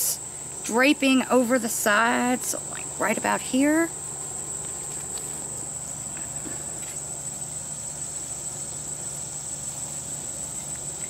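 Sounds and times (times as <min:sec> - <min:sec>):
high-pitched insect chorus: 0:00.0 - 0:11.0
low steady hum: 0:00.0 - 0:11.0.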